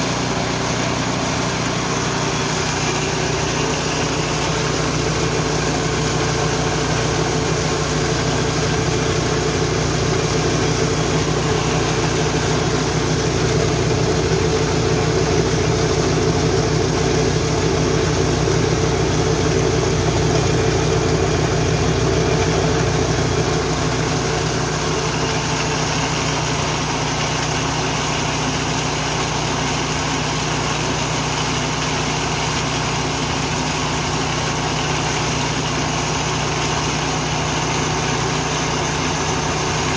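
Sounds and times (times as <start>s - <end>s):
grain mill mechanical drone: 0.0s - 39.9s.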